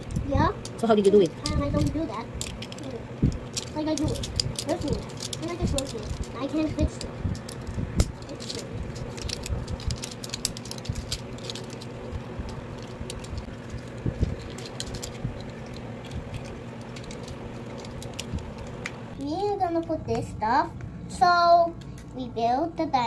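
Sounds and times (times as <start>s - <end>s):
plastic toy parts clicking: 0.0s - 18.7s.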